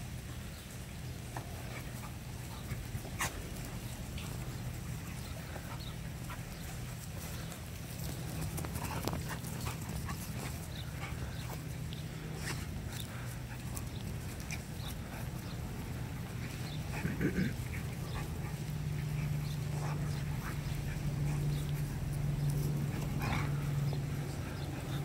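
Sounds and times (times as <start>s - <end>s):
steady low hum: 0.0s - 25.0s
puppies scuffling: 0.5s - 25.0s
puppies vocalizing: 0.5s - 25.0s.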